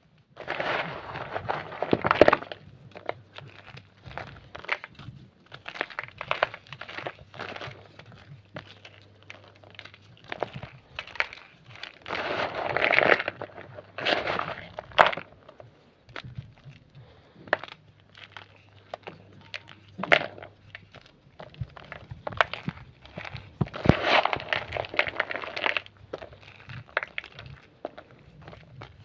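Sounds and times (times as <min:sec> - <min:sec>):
chalk crunching and crumbling: 0:00.0 - 0:29.0.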